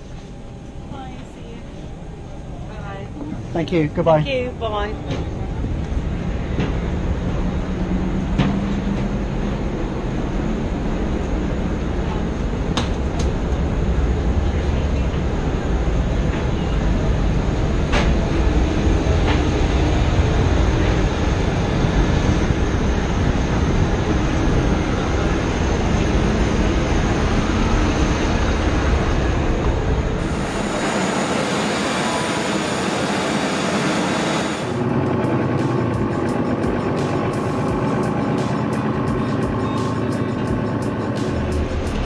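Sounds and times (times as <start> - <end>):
airport apron rumble: 0.0 - 42.0.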